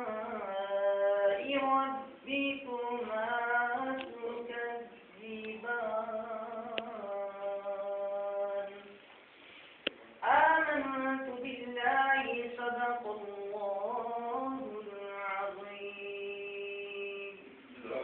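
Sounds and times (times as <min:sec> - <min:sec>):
person singing devotional recitation: 0:00.0 - 0:08.9, 0:10.2 - 0:18.0.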